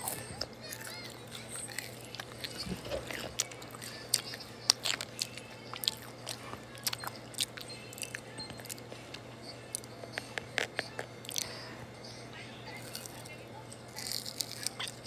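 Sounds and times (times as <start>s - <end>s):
chewing crunchy fries: 0.0s - 15.0s.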